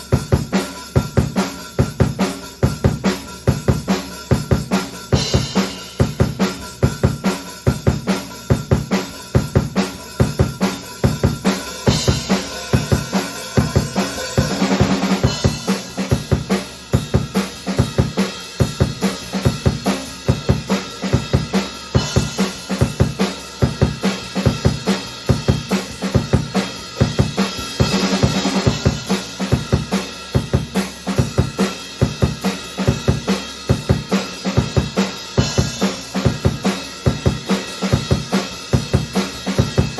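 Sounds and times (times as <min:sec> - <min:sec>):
drum kit rock beat: 0:00.0 - 0:39.9.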